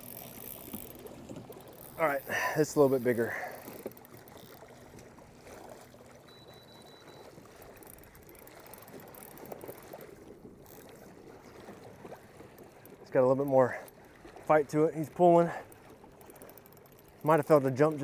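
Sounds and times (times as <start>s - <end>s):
water sloshing against kayak hull: 0.0s - 18.0s.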